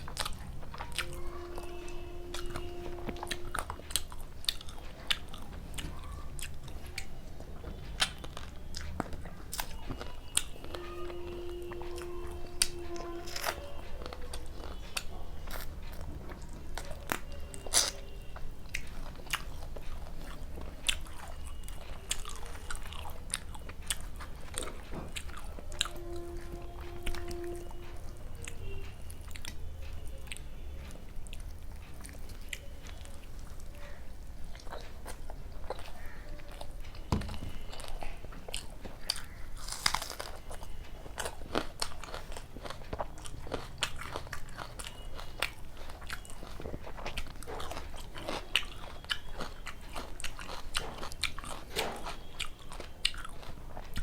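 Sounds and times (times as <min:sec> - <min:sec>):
steady hum: 0:00.0 - 0:48.1
person chewing food: 0:00.0 - 0:54.0.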